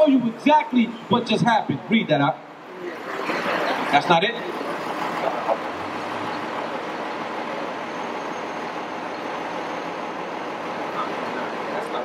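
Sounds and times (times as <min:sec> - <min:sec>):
buses passing: 0:00.0 - 0:12.0
city street traffic: 0:00.0 - 0:12.0.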